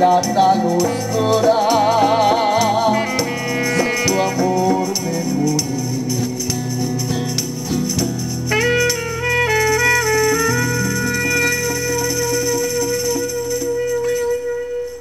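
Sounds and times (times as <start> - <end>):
saxophone melody: 2.6 - 15.0.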